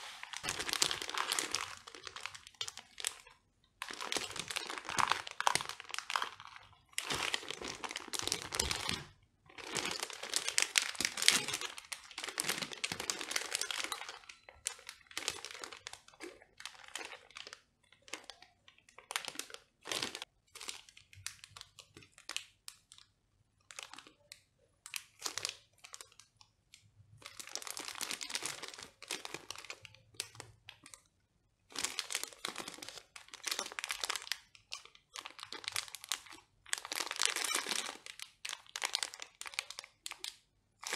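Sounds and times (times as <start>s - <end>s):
plastic bags crinkling: 0.0s - 22.4s, 24.9s - 26.2s, 27.2s - 31.0s, 31.7s - 40.9s.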